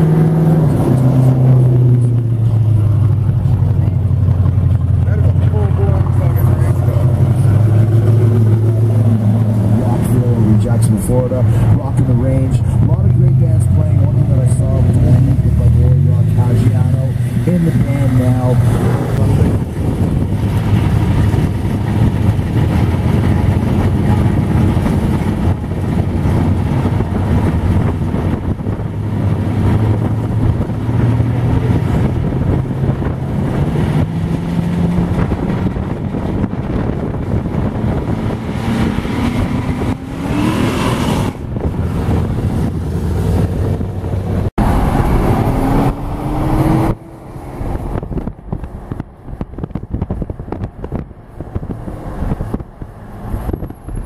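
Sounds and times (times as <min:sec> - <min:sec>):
car engines droning: 0:00.0 - 0:54.0.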